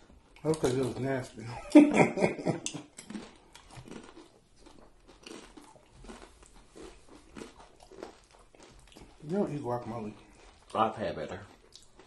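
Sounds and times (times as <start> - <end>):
tortilla chip crunching: 0.2 - 1.4, 2.6 - 12.0.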